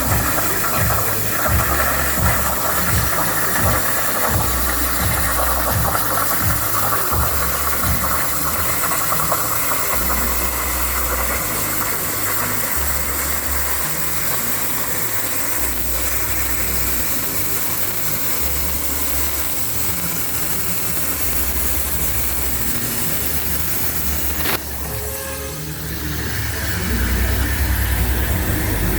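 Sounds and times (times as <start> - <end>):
low machine hum: 0.0 - 28.9
machine hiss: 0.0 - 28.9.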